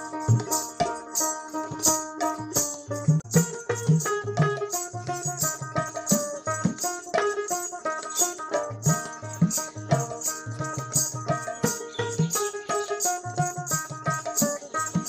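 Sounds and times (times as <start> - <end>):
steady percussion beat: 0.0 - 15.0.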